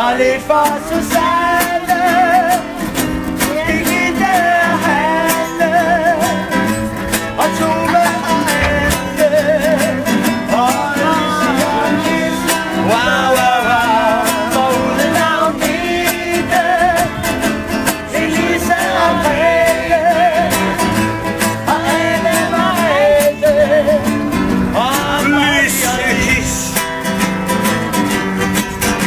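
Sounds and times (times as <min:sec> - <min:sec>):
person singing with vibrato: 0:00.0 - 0:26.8
acoustic guitar strumming: 0:00.0 - 0:29.0.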